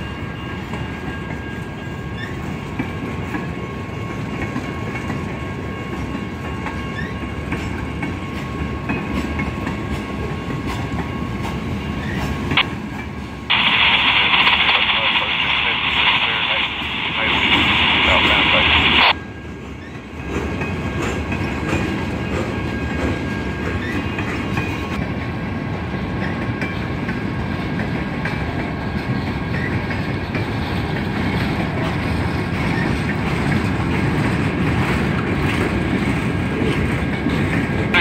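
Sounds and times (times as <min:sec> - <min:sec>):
steel wheels rumbling on rail: 0:00.0 - 0:38.0.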